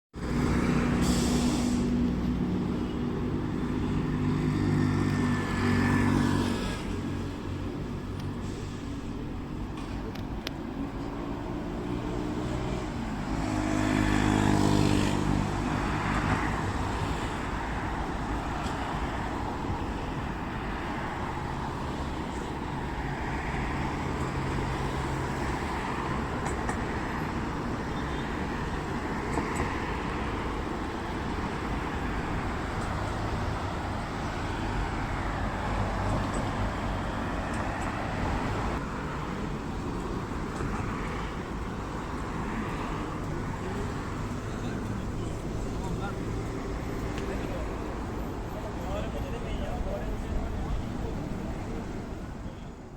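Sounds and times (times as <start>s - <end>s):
steady road noise: 0.1s - 52.9s
vehicle engines passing: 0.2s - 52.9s.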